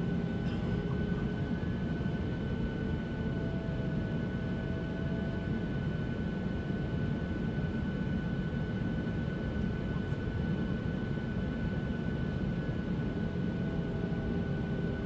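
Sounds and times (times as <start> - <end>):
airliner cabin engine and airflow rush: 0.0 - 15.0.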